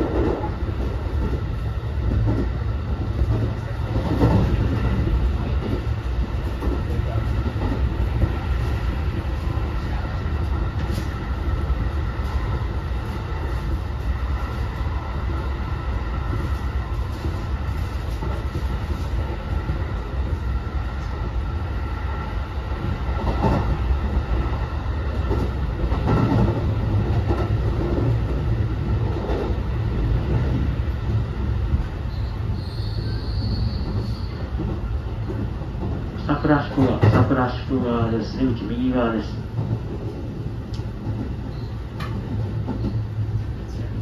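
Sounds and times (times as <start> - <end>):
wheels rumbling on rail: 0.0 - 44.0.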